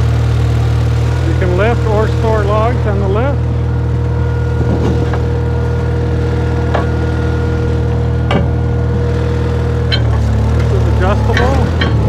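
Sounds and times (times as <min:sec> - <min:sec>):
engine running steadily: 0:00.0 - 0:12.0
steady whine: 0:00.0 - 0:12.0.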